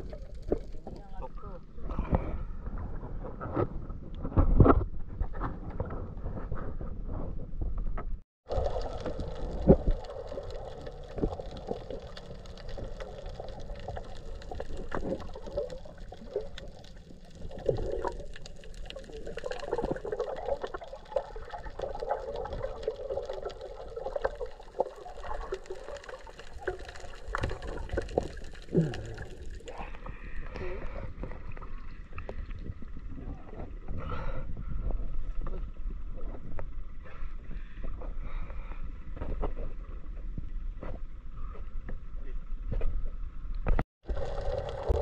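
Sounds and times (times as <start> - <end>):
muffled underwater water movement: 0.0 - 45.0.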